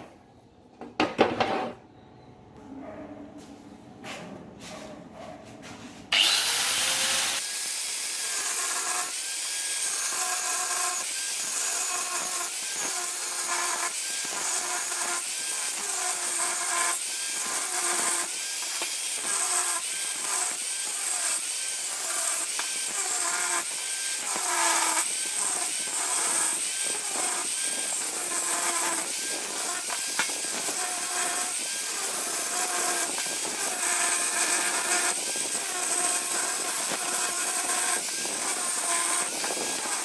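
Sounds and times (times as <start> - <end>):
angle grinder cutting metal: 6.1 - 40.0.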